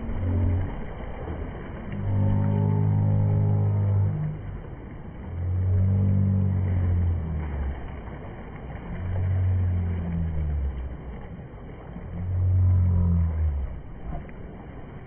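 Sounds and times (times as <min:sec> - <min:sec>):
loud low rumbles: 0:00.0 - 0:14.5
river water rushing: 0:00.0 - 0:15.0.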